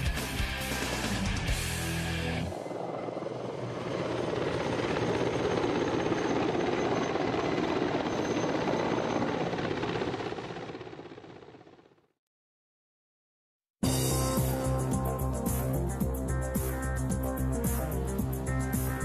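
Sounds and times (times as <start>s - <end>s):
helicopter in flight: 0.1s - 12.2s, 14.2s - 19.0s.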